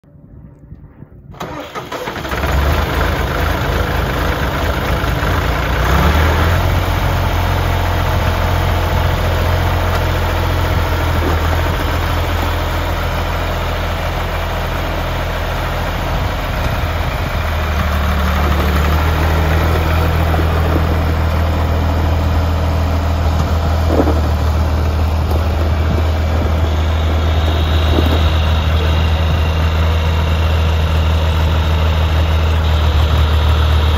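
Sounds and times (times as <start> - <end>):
tractor engine cranking and running: 1.3 - 33.9.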